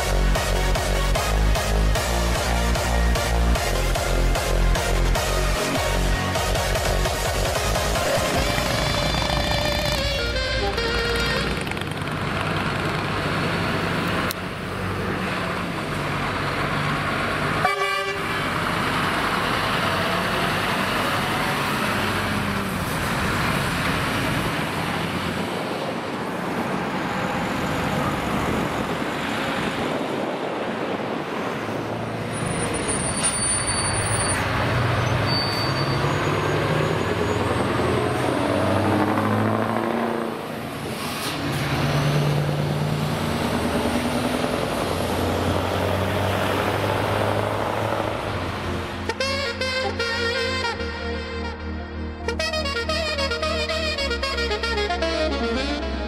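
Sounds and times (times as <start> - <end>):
truck diesel engines pulling away: 0.0 - 56.0.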